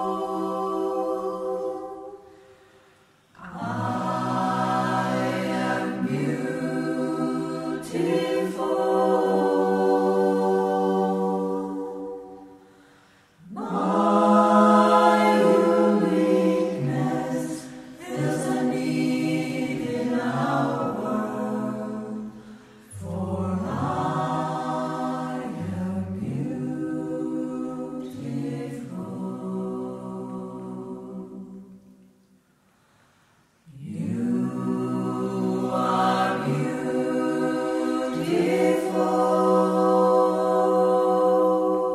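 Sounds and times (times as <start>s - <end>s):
choir singing unaccompanied: 0.0s - 2.4s, 3.4s - 12.8s, 13.4s - 32.0s, 33.7s - 41.9s.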